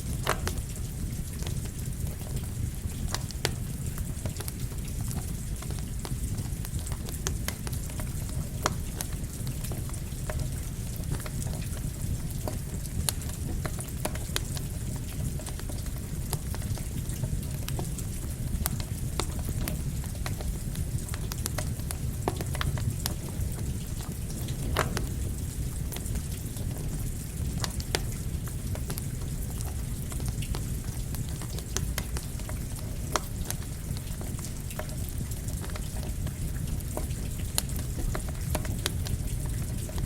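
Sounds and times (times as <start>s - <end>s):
campfire crackling and popping: 0.0s - 40.0s
steady rain: 0.0s - 40.0s.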